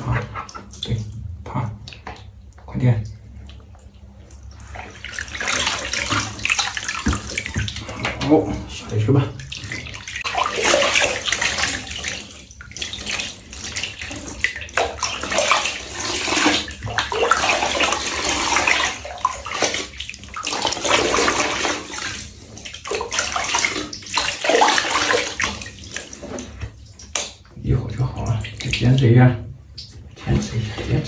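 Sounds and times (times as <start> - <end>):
running water splashing in a tub: 1.8 - 31.0.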